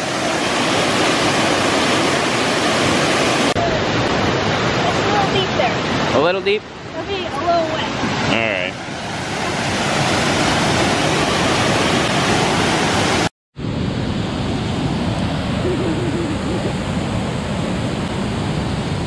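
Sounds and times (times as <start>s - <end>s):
waterfall and river rushing: 0.0s - 19.0s.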